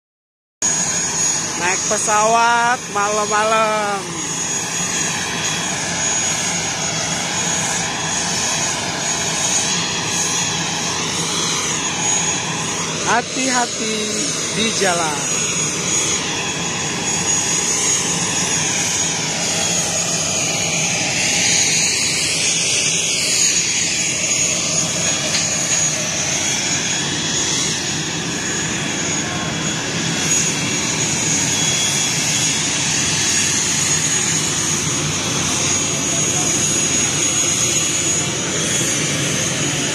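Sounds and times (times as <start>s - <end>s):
aircraft turbine running: 0.6s - 39.9s.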